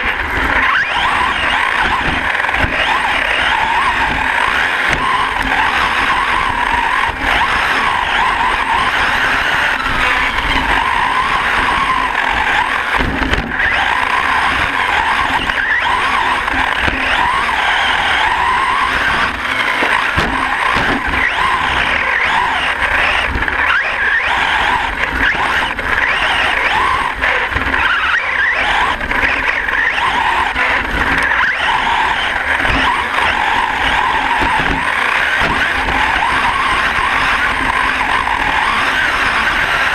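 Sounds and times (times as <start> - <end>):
rc truck motor whine: 0.0 - 39.9
tyres on dirt: 0.0 - 39.9.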